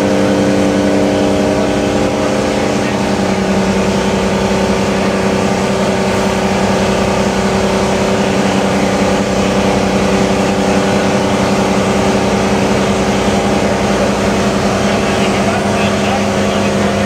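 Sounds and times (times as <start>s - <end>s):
diesel engine under heavy load: 0.0s - 17.0s.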